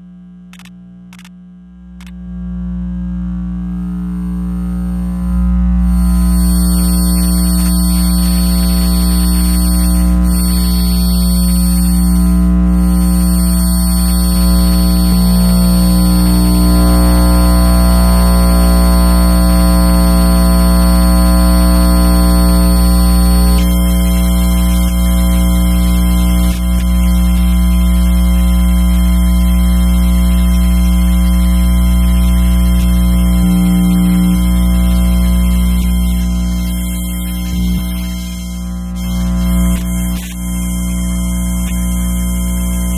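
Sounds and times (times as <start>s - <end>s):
electrical buzz with deep hum: 0.0s - 42.9s
high whining tones: 5.7s - 41.7s.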